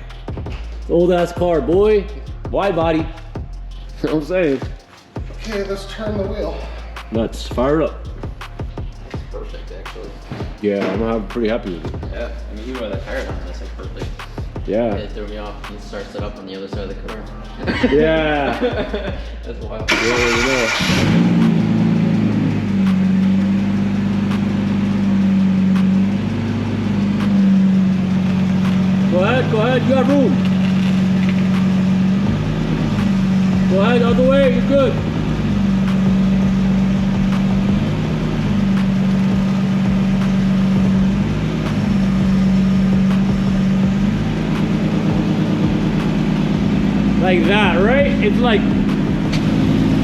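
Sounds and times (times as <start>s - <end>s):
car engine idling: 0.0s - 10.3s, 11.0s - 50.0s.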